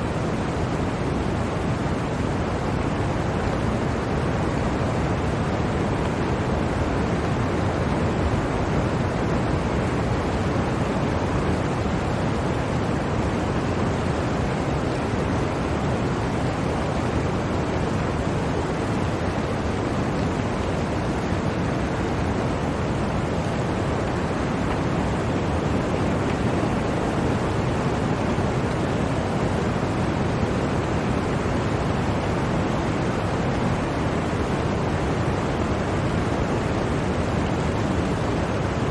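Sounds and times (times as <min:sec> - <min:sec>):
blizzard wind blowing: 0:00.0 - 0:38.9.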